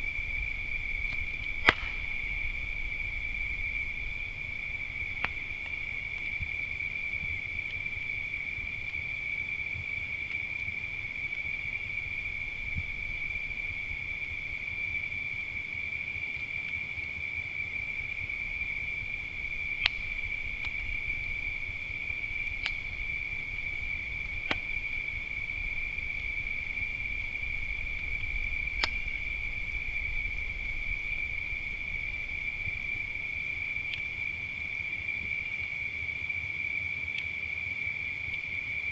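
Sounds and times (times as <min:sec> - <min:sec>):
wood fire popping: 0:00.0 - 0:16.8, 0:17.4 - 0:35.5
crickets trilling: 0:00.0 - 0:38.9.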